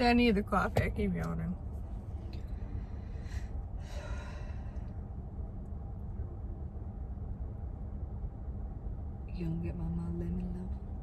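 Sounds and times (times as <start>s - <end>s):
low car cabin hum: 0.0s - 11.0s.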